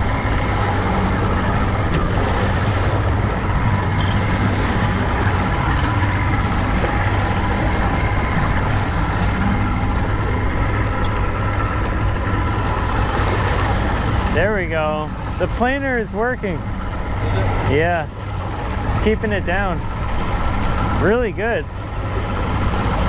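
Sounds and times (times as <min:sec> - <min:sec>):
churning wake rushing: 0:00.0 - 0:23.0
outboard motor humming: 0:00.0 - 0:23.0
wind: 0:00.0 - 0:23.0.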